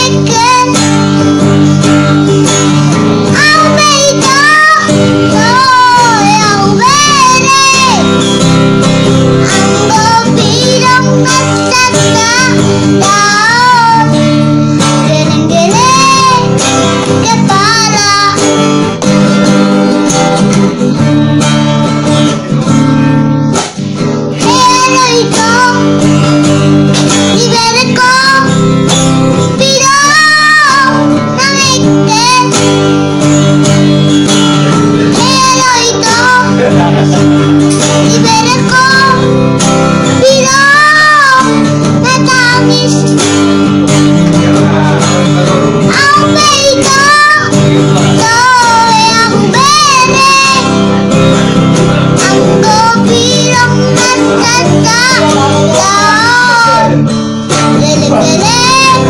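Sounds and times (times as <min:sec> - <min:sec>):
boy singing: 0:00.0 - 0:20.2, 0:23.5 - 0:59.0
acoustic guitar chords: 0:00.0 - 0:59.0.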